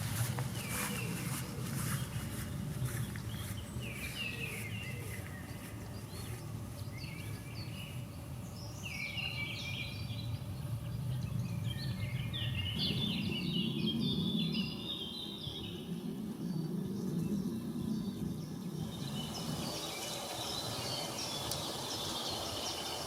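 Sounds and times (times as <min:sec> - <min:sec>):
steady low rumble: 0:00.0 - 0:08.8, 0:09.8 - 0:21.7
songbird singing: 0:00.0 - 0:23.0.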